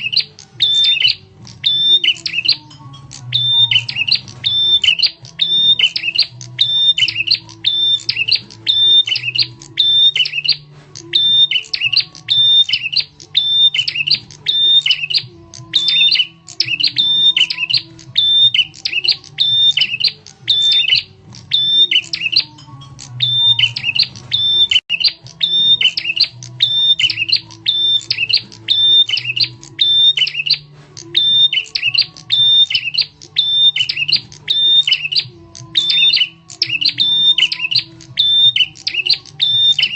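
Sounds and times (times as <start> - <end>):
bird chirping phrases: 0.0 - 39.9.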